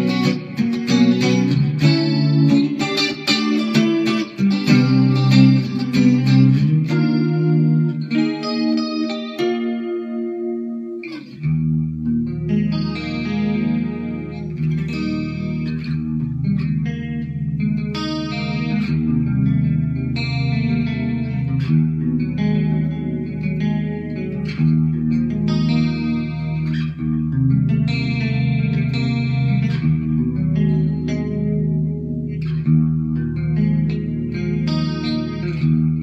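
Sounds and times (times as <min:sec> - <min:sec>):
clean electric guitar chords: 0:00.0 - 0:36.0.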